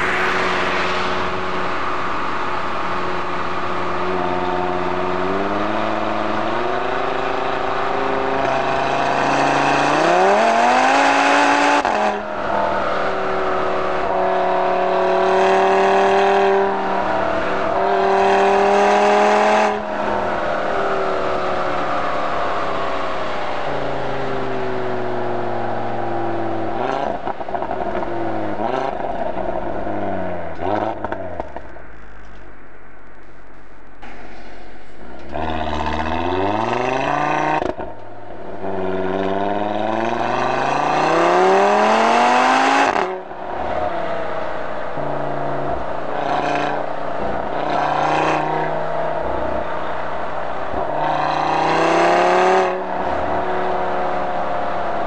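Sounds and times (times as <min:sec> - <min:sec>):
car engine revving through exhaust: 0:00.0 - 0:31.7, 0:35.0 - 0:55.0.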